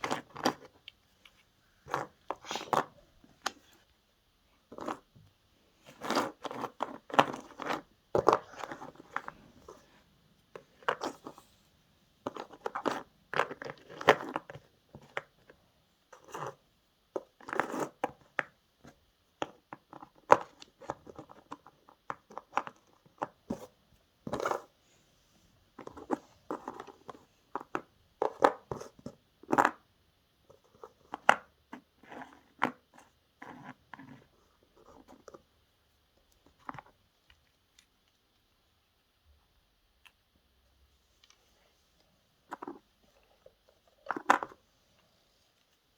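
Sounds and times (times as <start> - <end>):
faint steady hiss: 0.0 - 33.4, 34.2 - 45.9.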